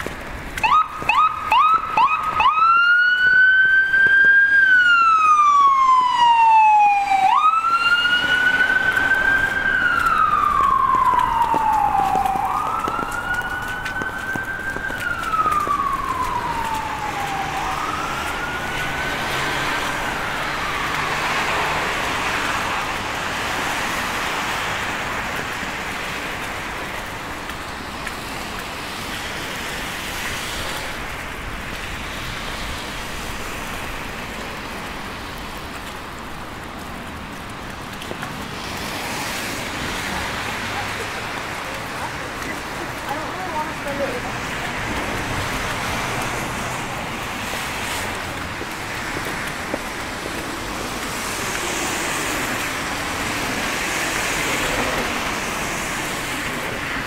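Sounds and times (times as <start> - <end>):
street noise hiss: 0.0 - 57.0
emergency siren yelping and wailing: 0.6 - 57.0.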